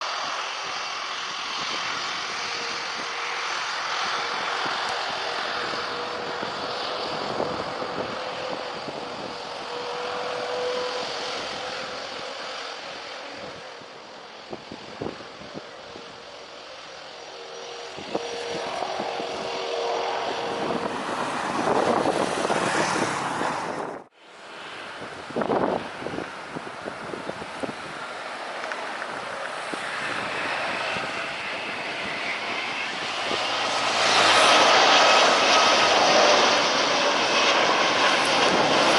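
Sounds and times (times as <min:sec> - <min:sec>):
jet airliner engines running: 0:00.0 - 0:38.9.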